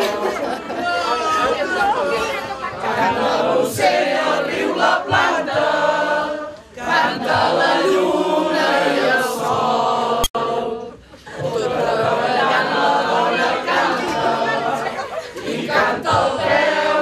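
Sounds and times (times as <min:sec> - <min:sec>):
women singing in unison: 0:01.4 - 0:17.0.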